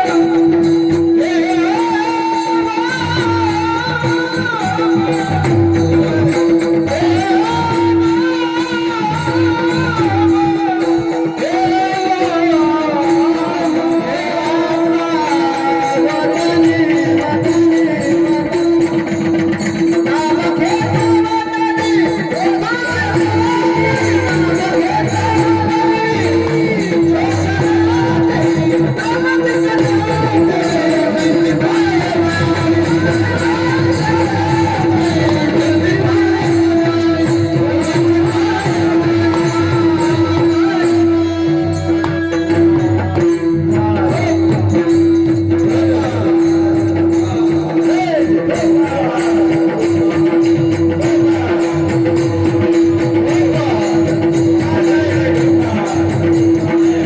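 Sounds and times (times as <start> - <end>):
dense percussion rhythm: 0.0 - 57.0
man singing devotional song: 0.0 - 57.0.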